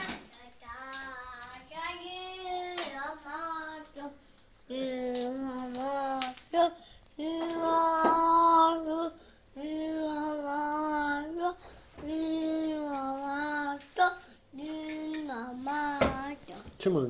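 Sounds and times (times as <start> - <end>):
girl singing held phrases: 0.0 - 16.8.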